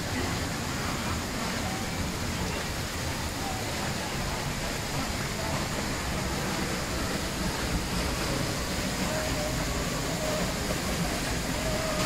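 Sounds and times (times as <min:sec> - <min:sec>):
waterfall pouring onto rocks: 0:00.0 - 0:12.0.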